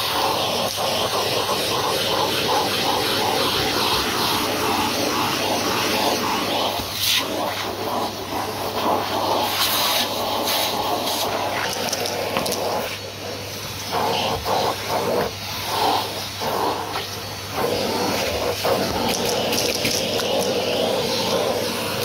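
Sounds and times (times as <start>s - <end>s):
vacuum motor hum: 0.0s - 22.0s
vacuum suction on carpet: 0.0s - 22.0s.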